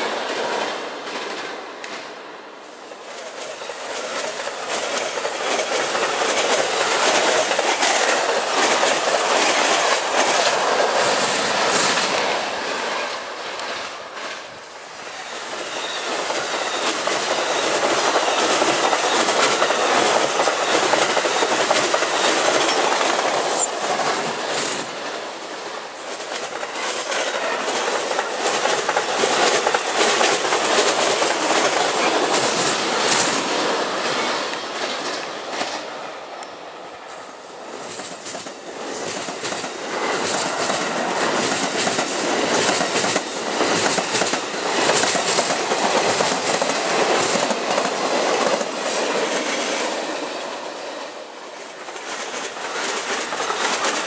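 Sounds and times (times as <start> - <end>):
passenger train passing: 0.0 - 54.0.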